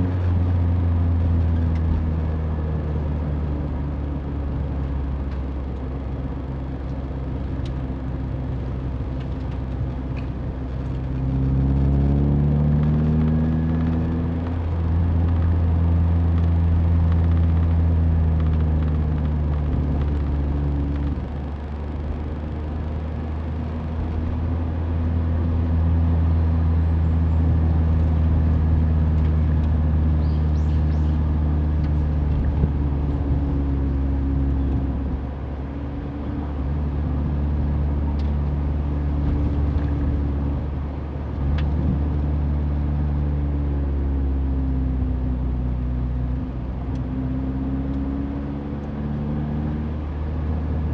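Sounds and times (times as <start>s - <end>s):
car engine running: 0.0s - 50.9s
road and tyre noise: 0.0s - 50.9s.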